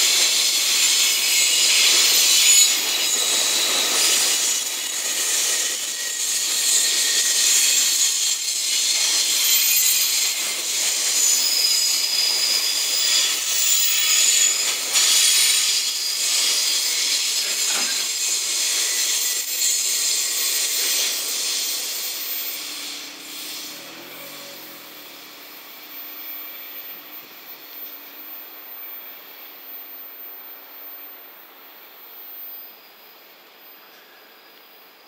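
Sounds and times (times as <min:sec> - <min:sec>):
freight train wheels on rails: 0:00.0 - 0:33.0.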